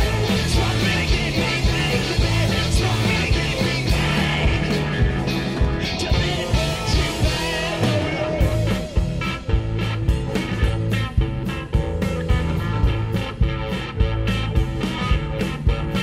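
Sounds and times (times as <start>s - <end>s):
bass: 0.0s - 16.0s
electric guitar: 0.0s - 16.0s
steady drums: 0.0s - 16.0s.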